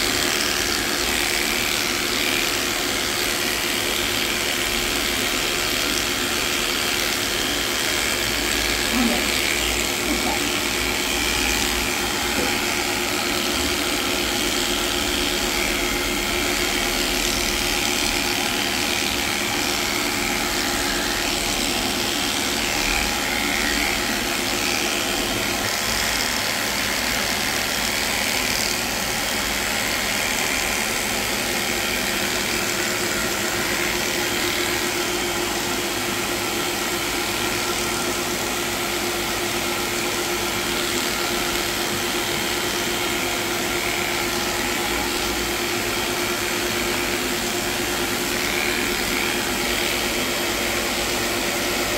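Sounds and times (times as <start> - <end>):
electric clipper buzzing: 0.0 - 51.9.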